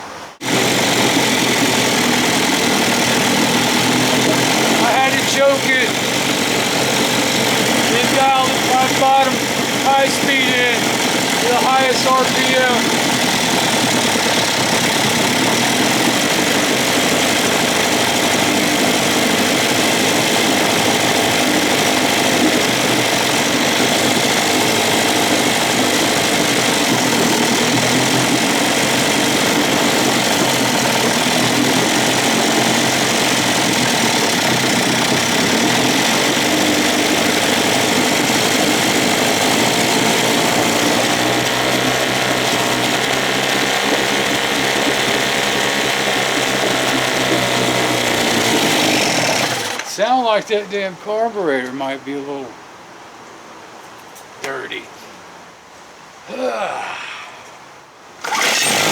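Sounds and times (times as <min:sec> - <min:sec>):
outboard motor running: 0:00.0 - 0:50.5, 0:58.2 - 0:58.9.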